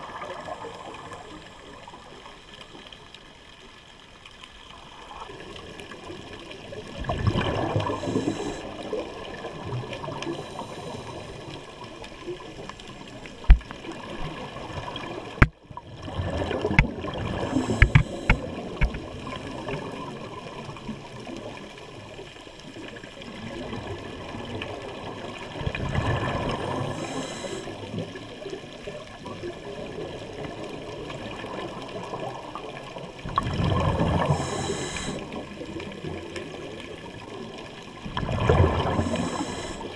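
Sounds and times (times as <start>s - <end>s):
exhaled bubbles underwater: 0.0s - 3.0s, 4.7s - 39.9s.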